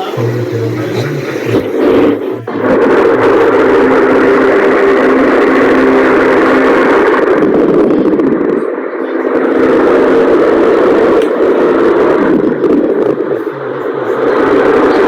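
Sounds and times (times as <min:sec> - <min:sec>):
electric fan rushing air: 0:00.0 - 0:15.0
faint motor hum: 0:00.0 - 0:15.0.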